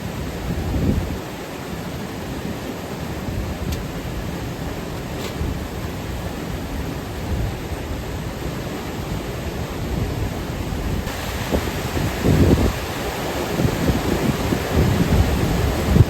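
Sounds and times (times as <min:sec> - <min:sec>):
waterfall and creek water rushing: 0:00.0 - 0:16.0.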